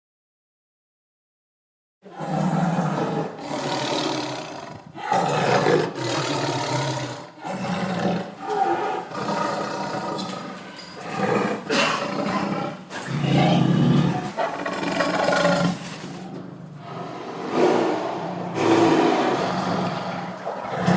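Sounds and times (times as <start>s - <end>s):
tiger roaring and snarling: 2.1s - 20.9s.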